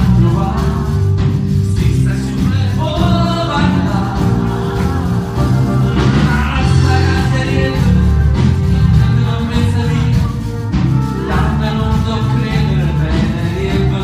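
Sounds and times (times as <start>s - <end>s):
live blues band: 0.0s - 14.0s
man singing: 0.0s - 14.0s
upright bass line: 0.0s - 14.0s.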